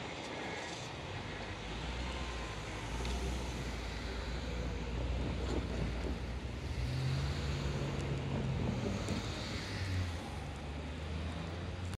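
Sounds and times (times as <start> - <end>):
tram rumbling along track: 0.0 - 11.9.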